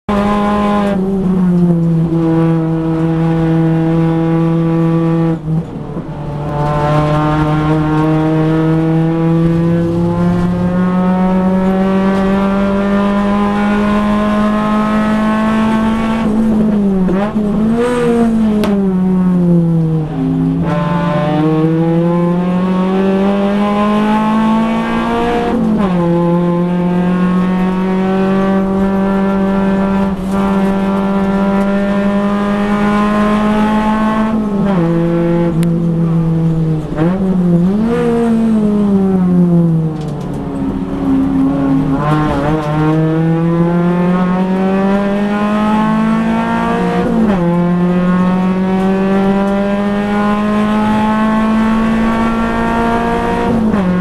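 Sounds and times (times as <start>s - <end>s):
race car engine accelerating: 0.1s - 54.0s.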